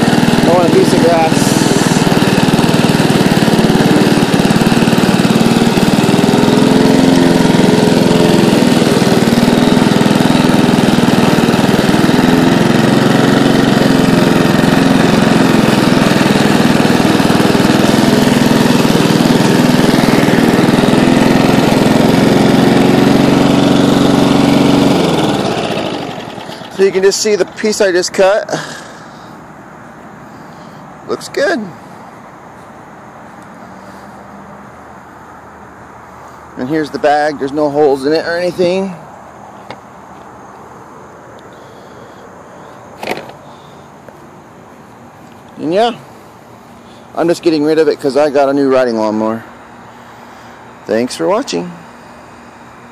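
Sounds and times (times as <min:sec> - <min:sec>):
lawn mower engine running: 0:00.0 - 0:52.9.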